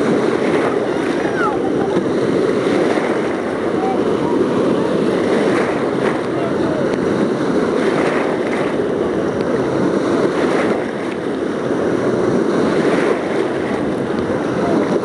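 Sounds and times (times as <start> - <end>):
water sloshing in wave pool: 0.0 - 15.0.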